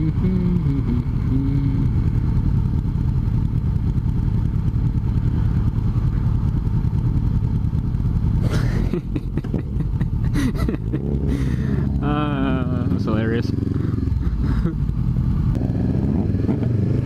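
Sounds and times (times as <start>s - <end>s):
motorcycle engine and exhaust: 0.0s - 17.0s.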